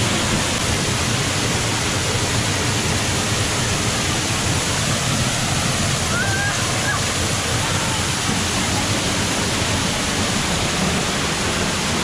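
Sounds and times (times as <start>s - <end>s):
waterfall rushing and splashing: 0.0s - 12.0s.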